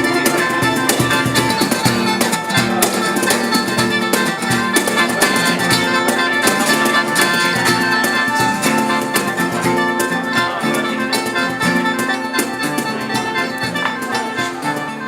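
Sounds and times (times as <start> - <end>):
band music: 0.0 - 15.0
plucked strings: 0.0 - 15.0.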